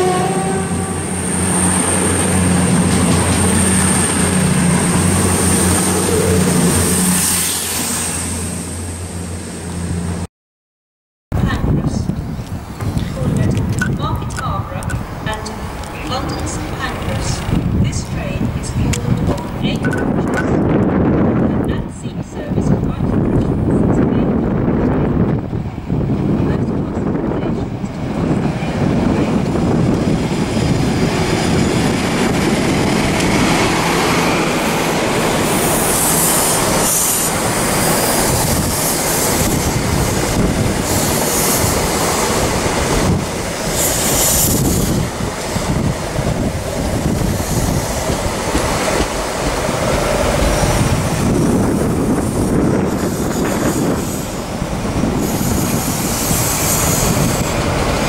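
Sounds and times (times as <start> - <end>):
train wheels rumbling on rail: 0.0 - 10.2, 11.4 - 58.0.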